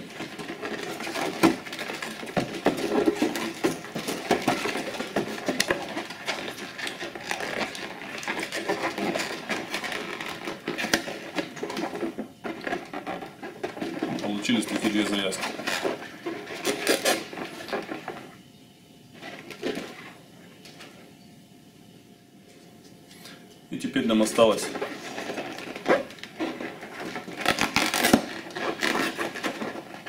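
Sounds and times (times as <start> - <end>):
balloons rubbing and squeaking: 0.0 - 18.3, 24.2 - 30.0.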